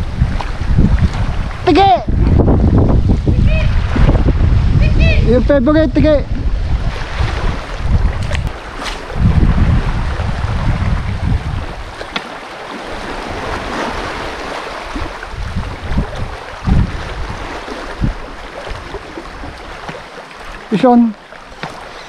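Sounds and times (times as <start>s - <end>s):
waves washing against rocks: 0.0s - 5.0s, 6.4s - 22.0s
wind buffeting microphone: 0.0s - 22.0s.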